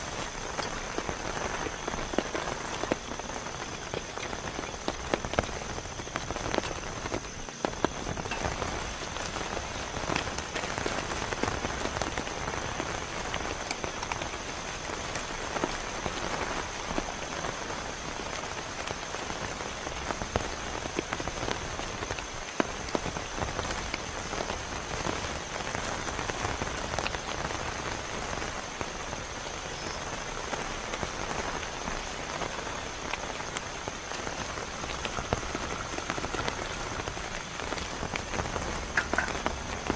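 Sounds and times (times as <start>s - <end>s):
heavy rain falling: 0.0s - 39.9s
sharp raindrop hits: 0.0s - 39.9s.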